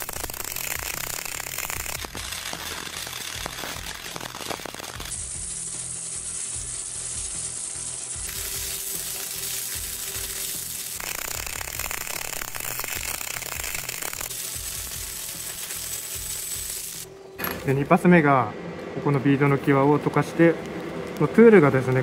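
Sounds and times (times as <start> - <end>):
welding arc crackling and sizzling: 0.0 - 18.0, 19.2 - 22.0.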